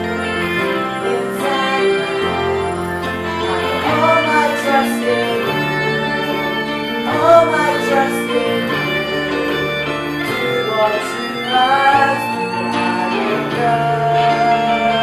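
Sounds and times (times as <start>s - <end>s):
instrumental stage music: 0.0s - 15.0s.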